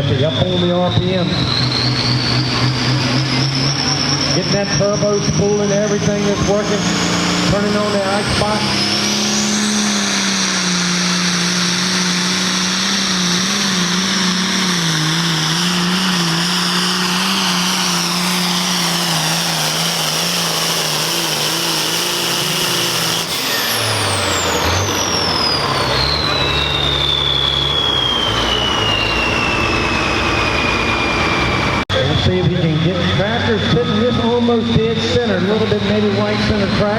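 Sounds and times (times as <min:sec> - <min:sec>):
tractor engine at full throttle: 0:00.0 - 0:36.9
turbo whistle winding down: 0:00.0 - 0:36.9.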